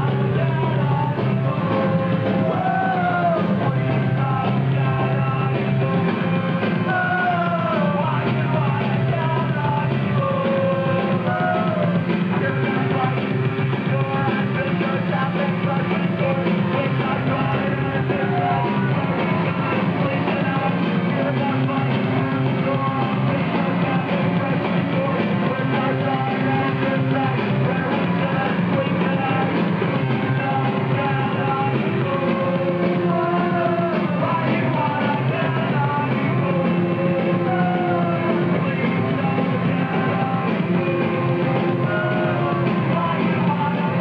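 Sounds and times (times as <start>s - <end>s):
person singing: 0.0s - 44.0s
punk rock band playing: 0.0s - 44.0s.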